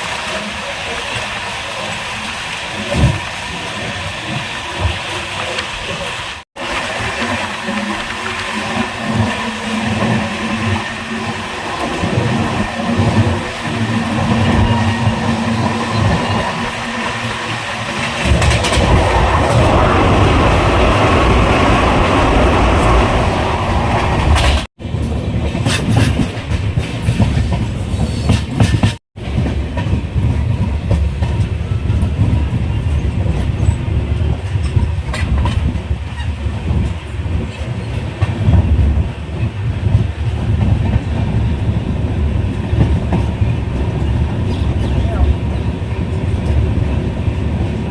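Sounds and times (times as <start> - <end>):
train wheels clattering on rails: 0.0 - 19.6, 21.7 - 47.9.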